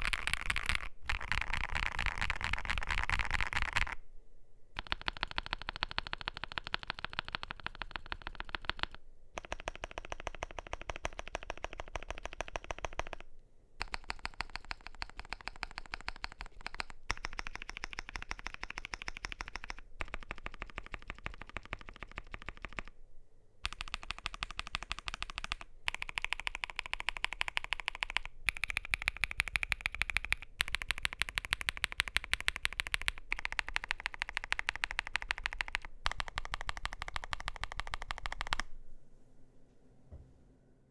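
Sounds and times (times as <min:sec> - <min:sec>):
fast typing on mechanical keyboard: 0:00.0 - 0:04.0, 0:04.8 - 0:22.9, 0:23.6 - 0:38.7.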